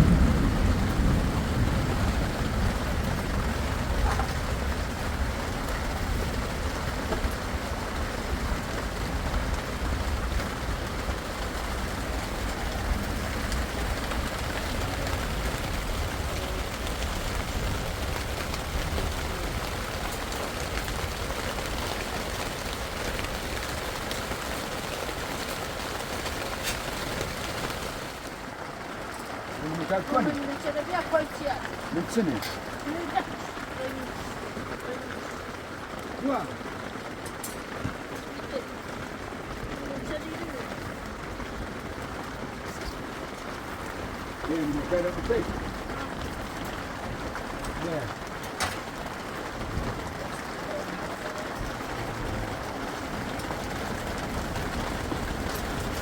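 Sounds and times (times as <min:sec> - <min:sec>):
low rumble of thunder: 0:00.0 - 0:28.5, 0:37.6 - 0:56.0
heavy rain: 0:00.0 - 0:56.0.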